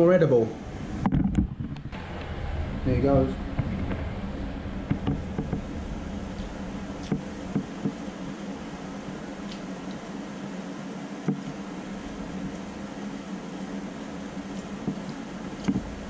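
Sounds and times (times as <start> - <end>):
appliance humming: 0.0 - 16.0.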